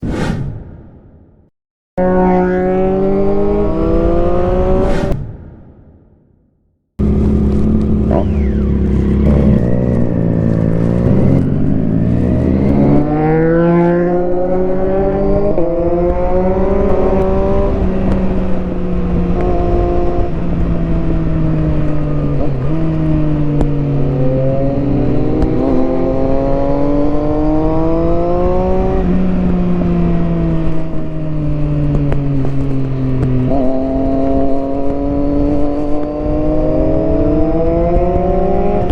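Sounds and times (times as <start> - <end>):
motorcycle engine revving: 2.0 - 5.2, 7.0 - 38.9.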